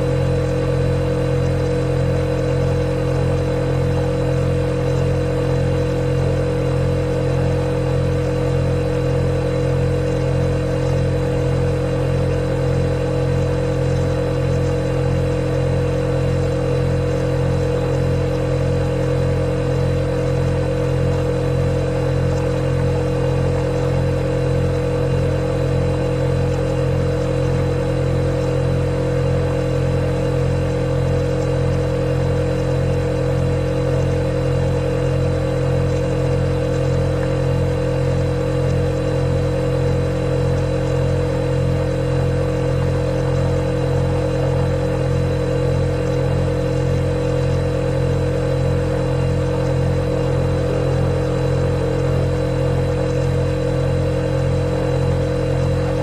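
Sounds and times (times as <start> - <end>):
refrigerator compressor hum: 0.0 - 56.0.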